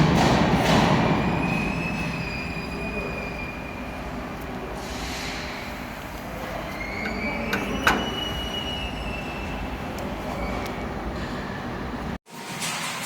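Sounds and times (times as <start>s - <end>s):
workshop machine whining: 1.2s - 12.2s.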